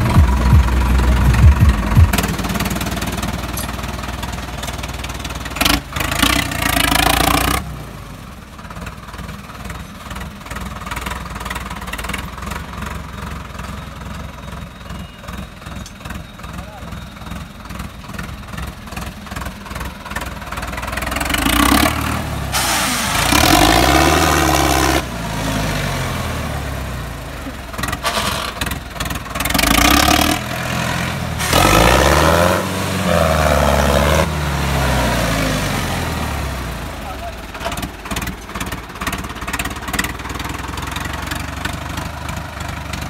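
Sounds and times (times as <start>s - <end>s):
tractor diesel engine chugging and revving: 0.0s - 43.0s.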